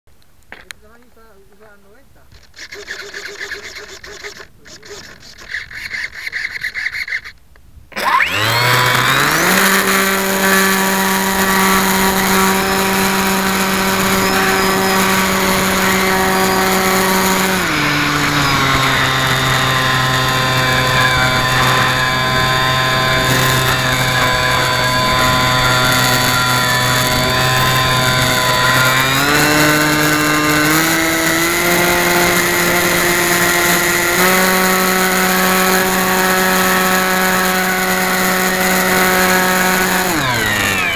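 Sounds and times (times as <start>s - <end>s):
model airplane motor whine: 2.3s - 40.9s.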